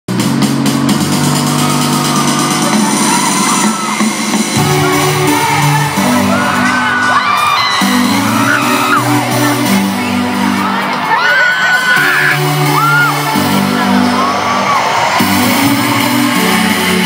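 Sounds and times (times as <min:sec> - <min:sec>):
live pop music: 0:00.1 - 0:17.0
crowd screaming and whooping: 0:01.0 - 0:17.0.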